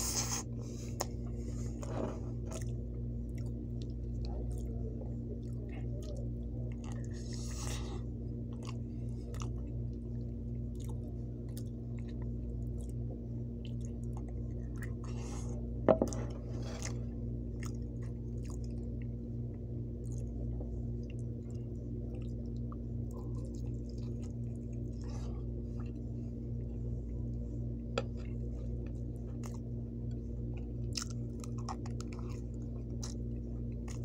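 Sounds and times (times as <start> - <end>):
low hum: 0.0 - 34.0
person chewing food: 0.0 - 34.0.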